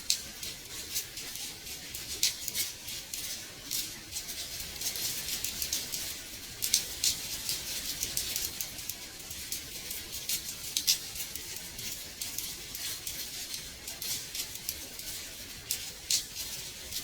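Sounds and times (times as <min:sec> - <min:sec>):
rain hissing on a window: 0:00.0 - 0:17.0.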